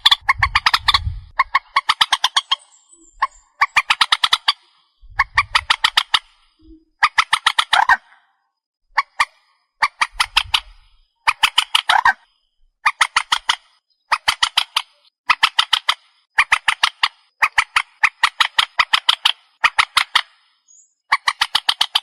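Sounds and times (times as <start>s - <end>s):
bird harsh clicking calls: 0.0s - 8.2s, 9.0s - 22.0s.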